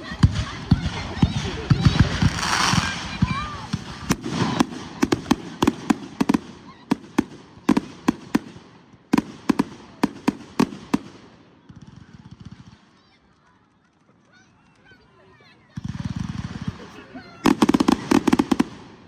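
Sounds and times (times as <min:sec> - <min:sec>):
fireworks bangs: 0:00.0 - 0:13.0, 0:15.7 - 0:19.0.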